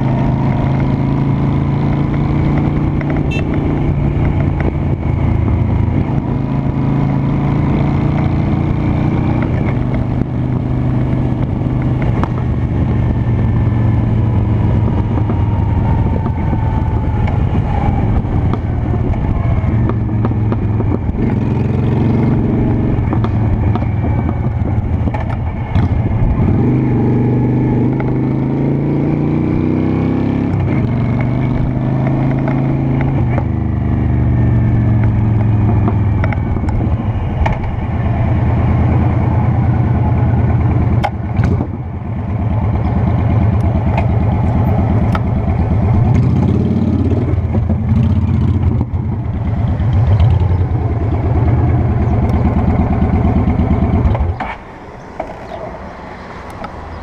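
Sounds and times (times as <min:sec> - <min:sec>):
motorcycle engine running: 0:00.0 - 0:54.6.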